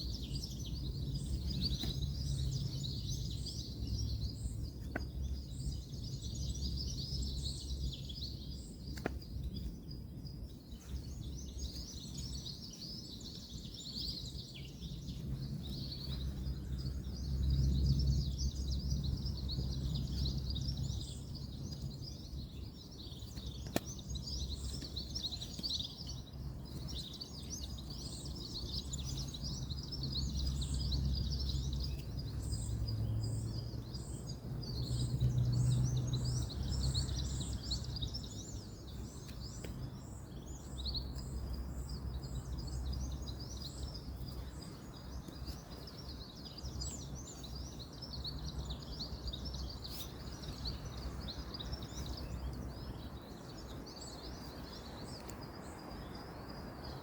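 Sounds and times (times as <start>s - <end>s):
distant road traffic rumble: 0.0s - 9.5s, 11.2s - 57.0s
birds chirping: 0.0s - 57.0s.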